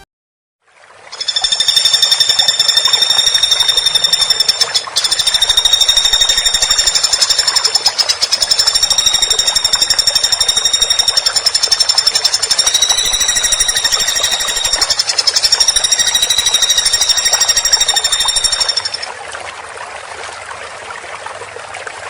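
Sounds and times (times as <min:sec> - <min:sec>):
woodpecker rattling call: 0:01.2 - 0:19.1.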